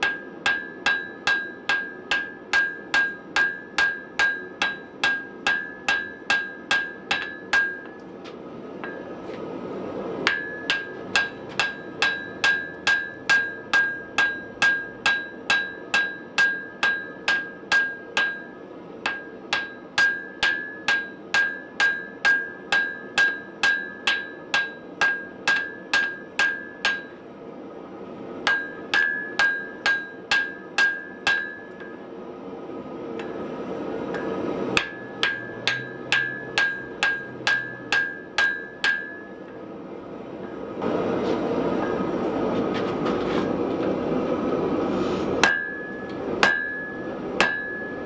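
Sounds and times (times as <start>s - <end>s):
hammer striking steel on anvil: 0.0s - 8.2s, 8.8s - 9.5s, 10.2s - 27.3s, 28.4s - 32.1s, 33.1s - 39.7s, 40.3s - 42.3s, 45.4s - 48.0s.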